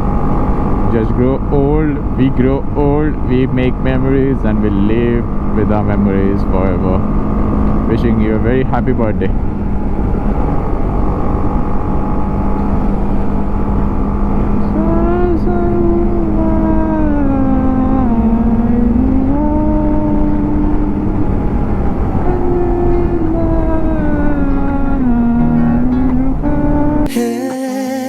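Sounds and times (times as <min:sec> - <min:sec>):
motorcycle engine running: 0:00.0 - 0:27.1
wind: 0:00.0 - 0:27.1
road rumble: 0:00.0 - 0:27.2.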